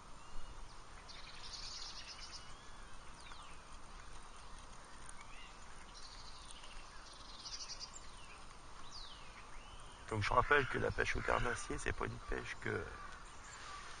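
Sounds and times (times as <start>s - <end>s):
birds singing and calling: 0.0s - 14.0s
faint outdoor hiss: 0.0s - 14.0s.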